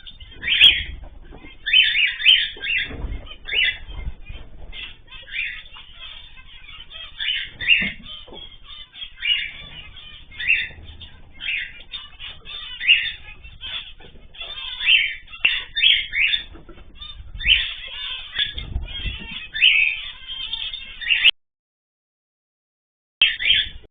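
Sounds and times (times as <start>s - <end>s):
small cage birds calling: 0.0s - 21.3s, 23.2s - 23.9s.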